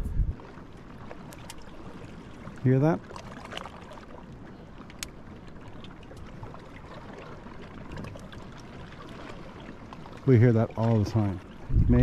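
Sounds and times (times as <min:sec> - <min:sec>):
calm water lapping: 0:00.0 - 0:12.0.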